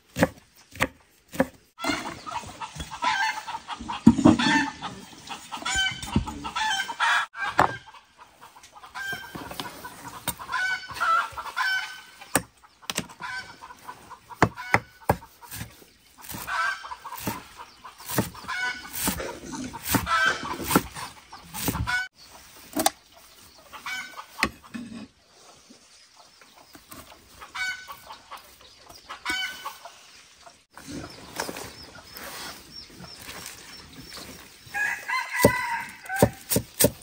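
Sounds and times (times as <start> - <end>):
chickens clucking: 0.2 - 37.0.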